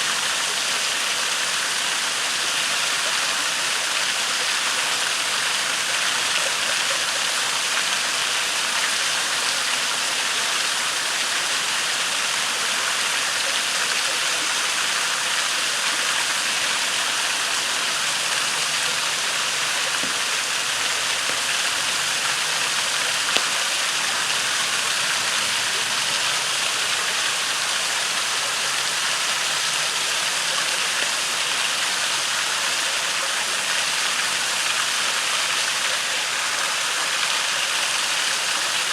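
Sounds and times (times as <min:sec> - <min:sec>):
waterfall and creek rushing: 0:00.0 - 0:38.9.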